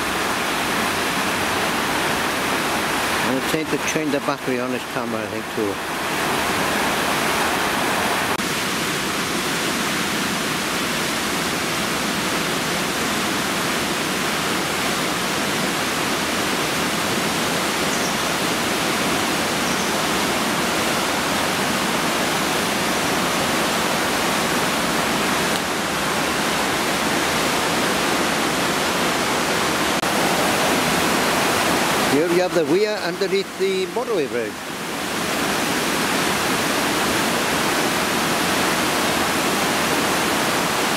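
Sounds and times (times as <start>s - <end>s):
floodwater rushing over weir: 0.0s - 40.9s.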